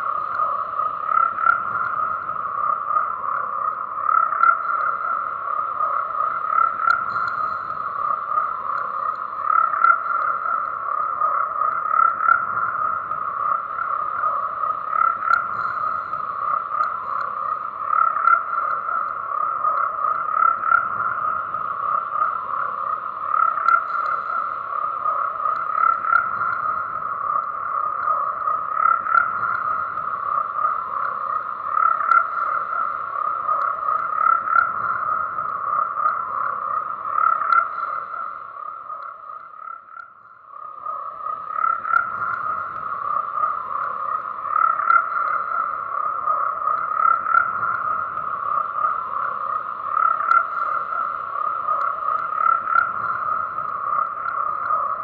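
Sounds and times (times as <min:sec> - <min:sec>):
frogs croaking in chorus: 0:00.0 - 0:55.0.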